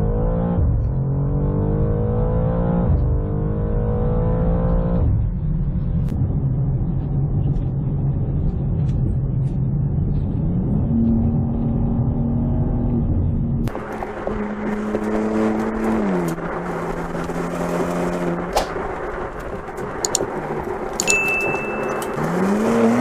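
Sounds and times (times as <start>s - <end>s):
car engine at full throttle: 0.0s - 23.0s
road noise: 0.0s - 23.0s.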